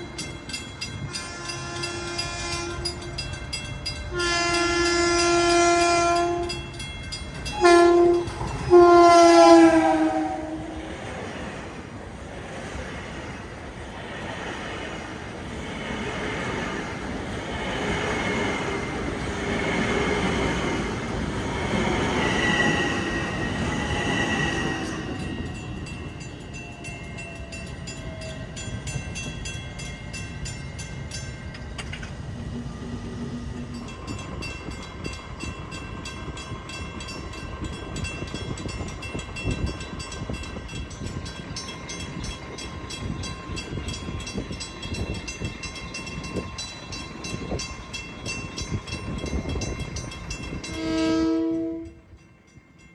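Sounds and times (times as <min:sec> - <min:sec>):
train passing: 0:00.0 - 0:52.9.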